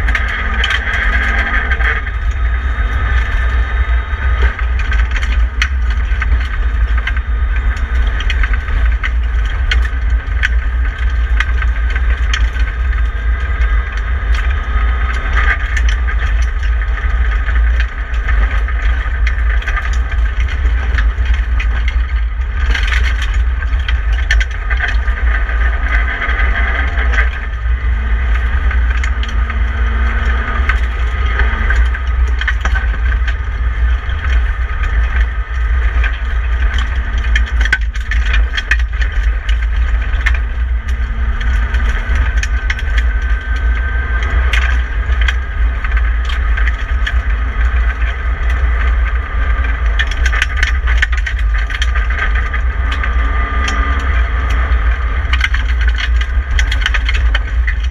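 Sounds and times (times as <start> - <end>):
car engine running hard: 0.0 - 57.9
gravel hitting car: 0.0 - 57.9
road rumble: 0.0 - 57.9.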